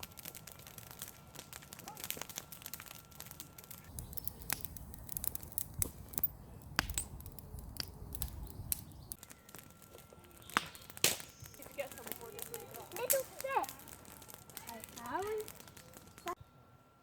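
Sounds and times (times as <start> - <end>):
campfire crackling and popping: 0.0 - 16.4.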